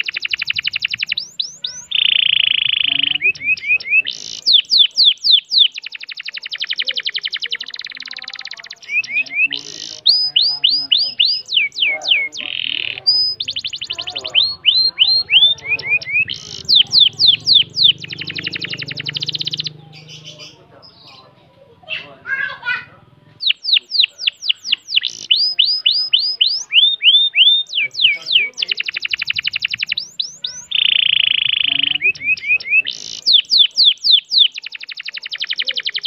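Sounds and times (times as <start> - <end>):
canary singing trilled song: 0.0 - 36.0.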